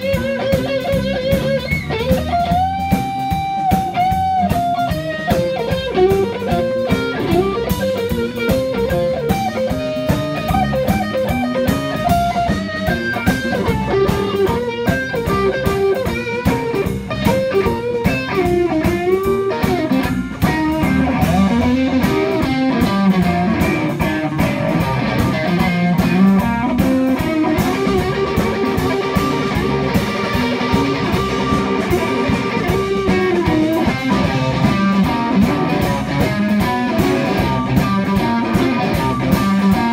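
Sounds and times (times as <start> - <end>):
bass guitar: 0.0 - 39.9
electric guitar bending notes: 0.0 - 39.9
steady drum beat: 0.0 - 39.9.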